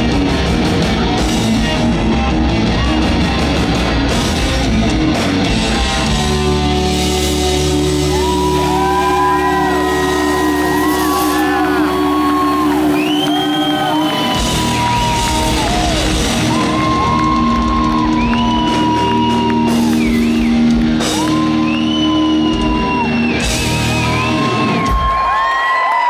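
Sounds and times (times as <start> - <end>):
electric guitar lead notes: 0.0 - 24.9
live rock band playing: 0.0 - 25.3.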